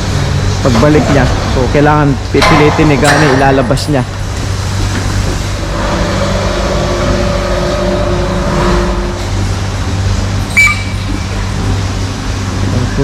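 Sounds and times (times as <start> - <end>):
milking machinery humming: 0.0 - 13.0.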